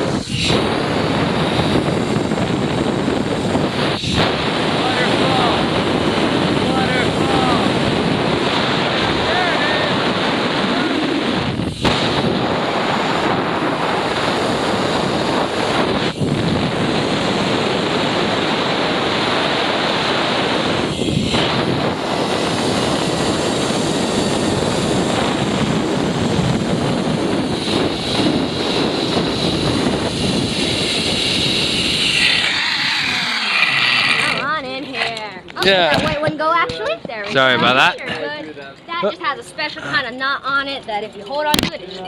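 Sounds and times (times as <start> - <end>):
wind rushing on microphone: 0.0 - 38.3.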